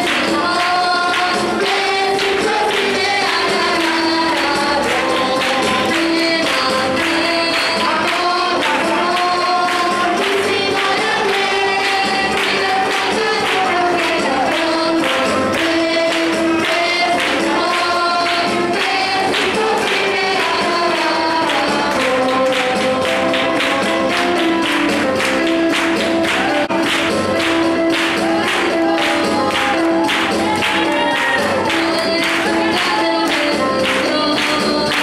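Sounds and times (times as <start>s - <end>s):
group of voices singing: 0.0s - 35.0s.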